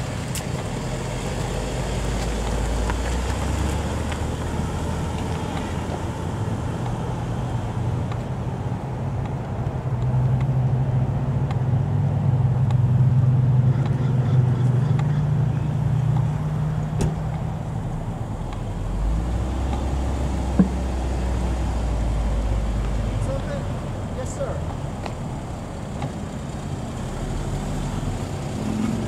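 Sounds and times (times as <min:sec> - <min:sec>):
suv engine idling: 0:00.0 - 0:28.6.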